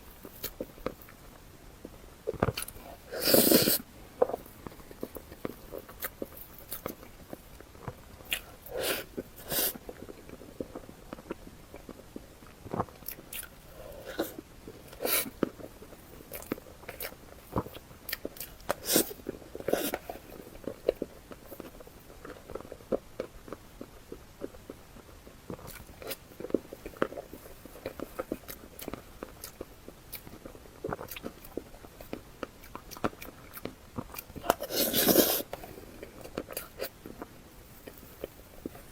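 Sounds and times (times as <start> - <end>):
person chewing and biting: 1.8 - 38.9.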